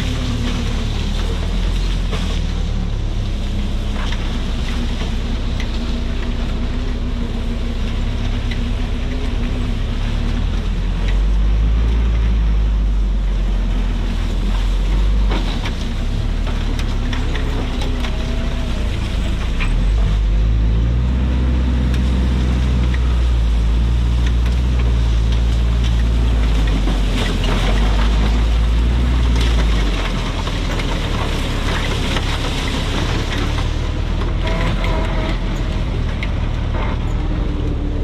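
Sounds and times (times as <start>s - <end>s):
car engine running under load: 0.0s - 38.0s.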